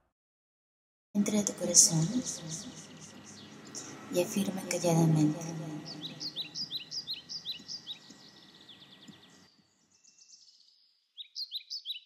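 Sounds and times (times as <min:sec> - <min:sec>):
small bird chirping: 0:01.7 - 0:12.0.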